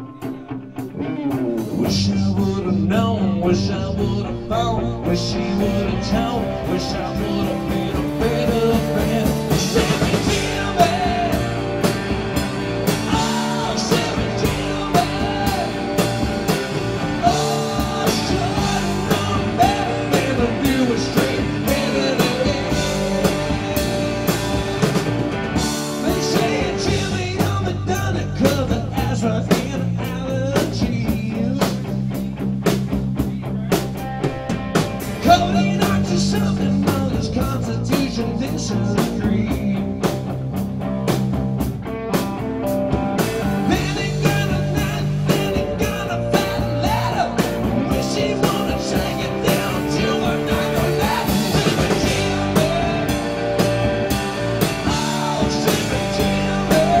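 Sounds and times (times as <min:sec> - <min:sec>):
bass guitar: 0:00.0 - 0:57.0
electric guitar lead: 0:00.0 - 0:57.0
drum kit beat: 0:05.2 - 0:57.0.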